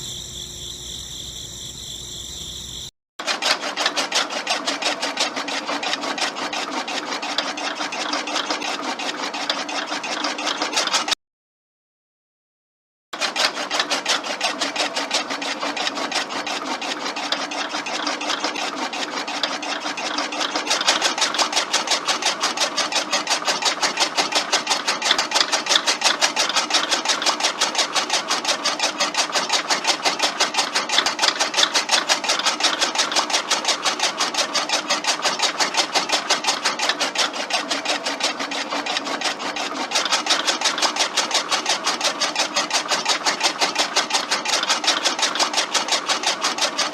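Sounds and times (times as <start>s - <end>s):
electric motor mechanical clatter: 0.0s - 11.1s, 13.2s - 46.9s.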